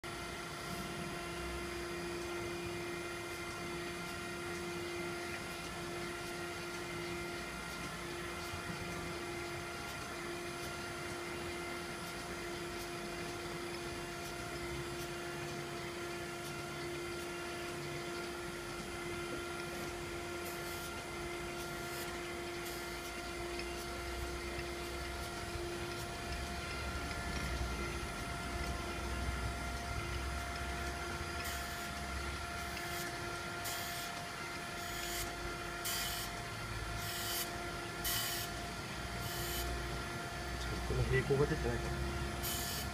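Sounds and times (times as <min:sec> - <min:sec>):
grinder spindle whine: 0:00.0 - 0:42.9.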